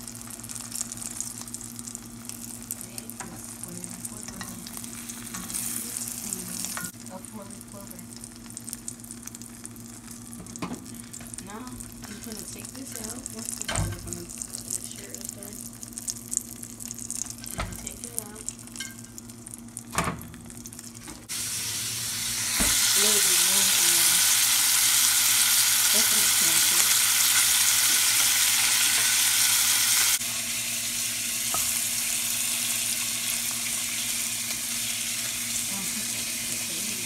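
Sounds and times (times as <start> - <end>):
bacon sizzling in a pan: 0.0 - 37.0.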